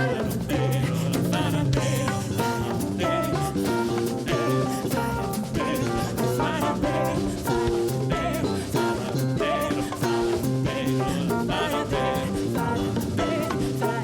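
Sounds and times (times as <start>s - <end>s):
band music: 0.0s - 14.0s
drum kit beat: 0.0s - 14.0s.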